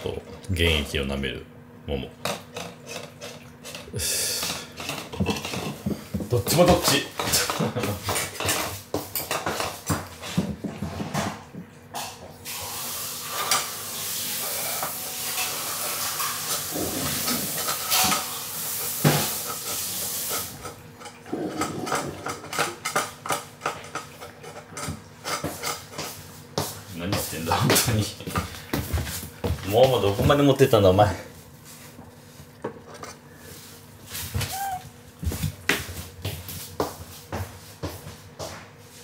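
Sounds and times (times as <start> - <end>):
cats licking and eating: 2.2 - 11.8, 12.4 - 36.8.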